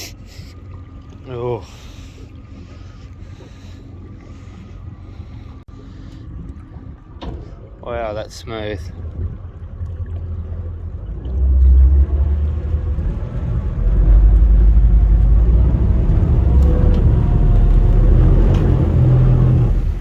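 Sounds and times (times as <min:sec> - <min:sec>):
outboard motor rumbling: 0:00.0 - 0:20.0.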